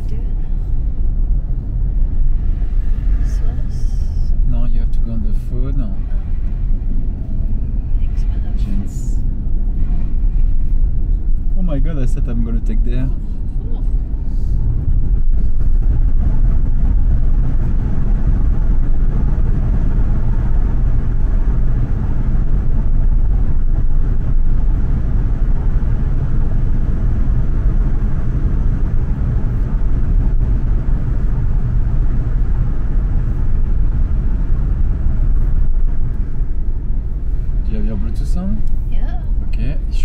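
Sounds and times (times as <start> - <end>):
car road rumble: 0.0 - 40.0.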